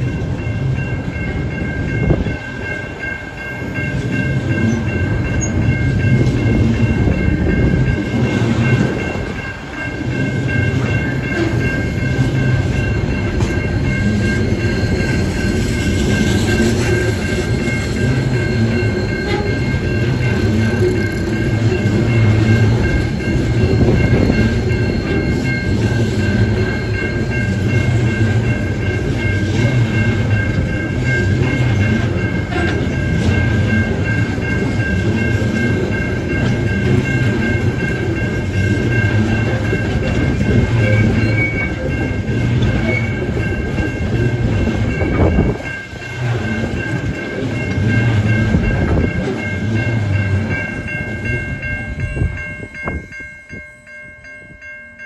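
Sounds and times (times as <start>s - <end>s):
freight train rumbling past: 0.0s - 55.0s
high-pitched ringing: 0.0s - 55.0s.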